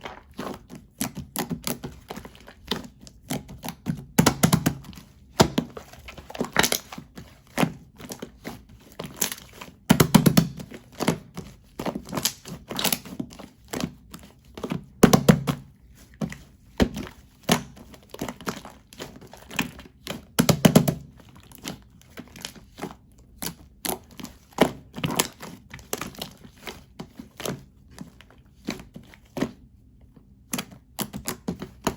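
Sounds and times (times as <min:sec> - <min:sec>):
slime squelching: 0:00.0 - 0:31.9.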